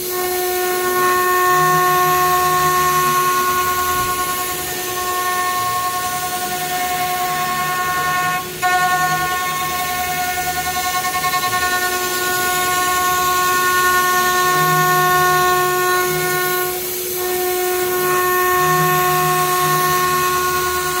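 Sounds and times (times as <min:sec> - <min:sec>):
router spindle whine: 0:00.0 - 0:21.0.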